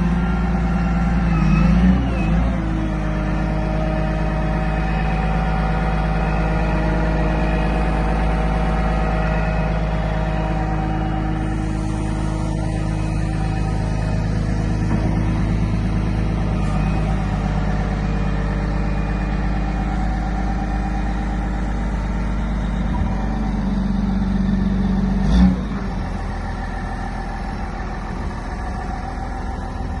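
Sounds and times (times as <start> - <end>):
wheel loader diesel engine running: 0.0 - 30.0.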